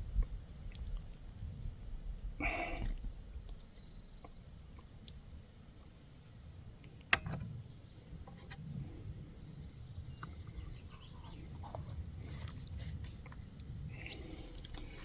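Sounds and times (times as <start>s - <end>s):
wind rumble on microphone: 0.0s - 5.2s, 7.3s - 15.0s.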